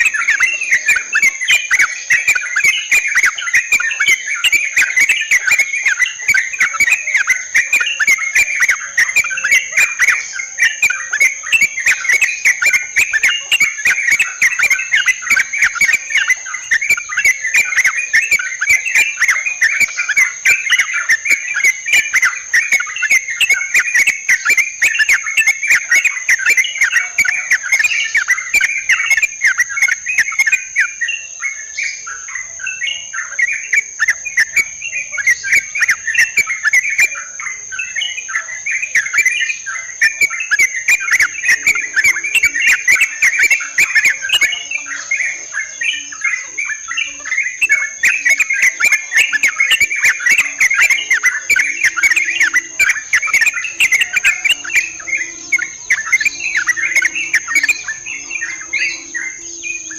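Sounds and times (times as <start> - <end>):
birds chattering: 0.0 - 59.9
high-pitched insect whine: 0.0 - 59.9.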